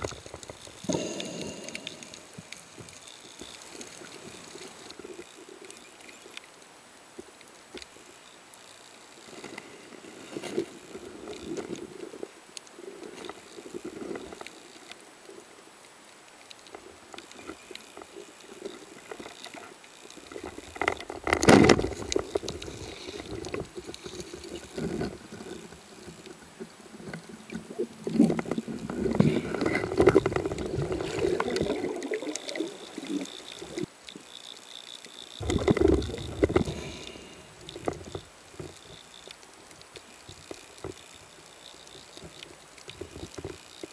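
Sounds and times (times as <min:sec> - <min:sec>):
small clicks: 0:00.0 - 0:43.9
underwater water rustle: 0:00.0 - 0:43.9.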